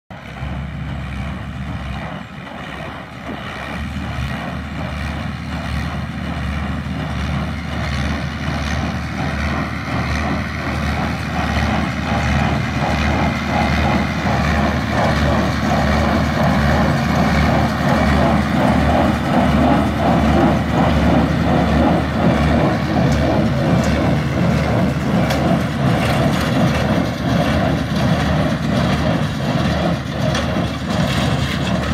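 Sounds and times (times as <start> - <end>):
tractor and baler droning: 0.1 - 31.9.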